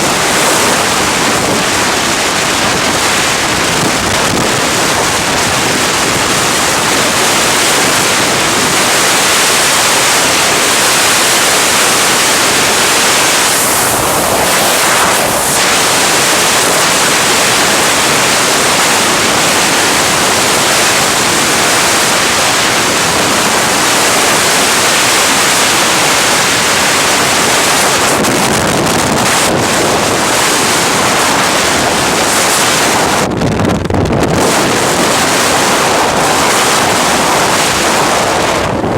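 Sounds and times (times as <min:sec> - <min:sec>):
strong wind on microphone: 0:00.0 - 0:38.9.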